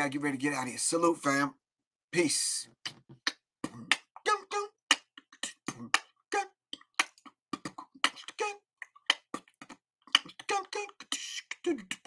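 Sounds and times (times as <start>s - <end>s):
clipped vocal sounds: 2.2s - 12.0s.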